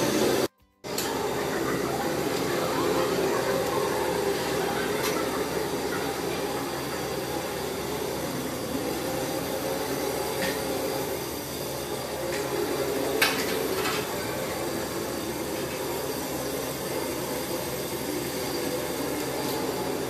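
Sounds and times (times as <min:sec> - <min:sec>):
heat cannon blower hum: 0:00.0 - 0:20.0.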